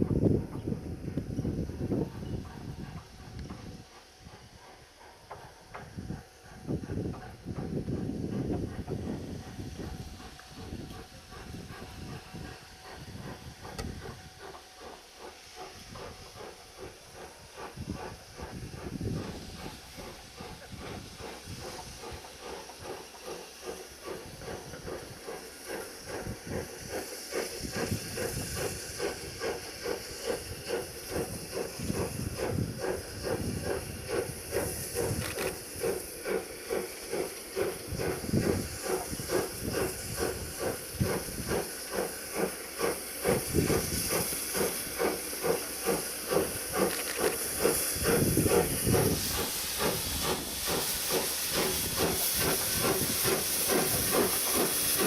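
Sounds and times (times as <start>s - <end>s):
steam hiss: 0.0s - 55.0s
steam locomotive chuffing: 0.0s - 55.0s.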